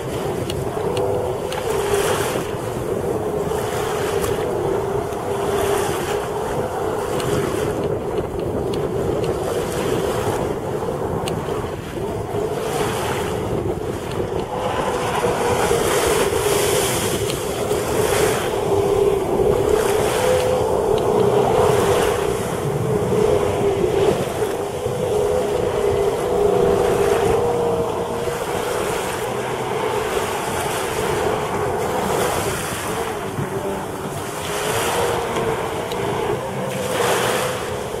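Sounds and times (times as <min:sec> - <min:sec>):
jet ski engine whine: 0:00.0 - 0:38.0
water rushing: 0:00.0 - 0:38.0
wind buffeting microphone: 0:00.0 - 0:38.0.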